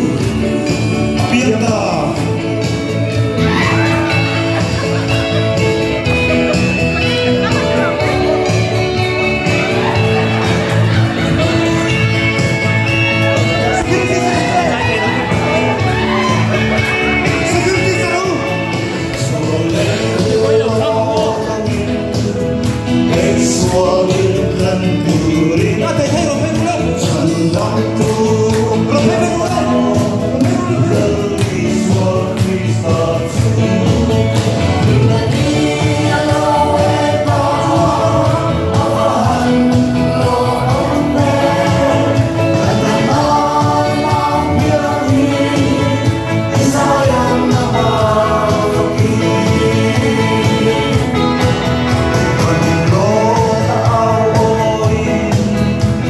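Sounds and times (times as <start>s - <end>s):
song with instrumental backing: 0.0s - 56.0s.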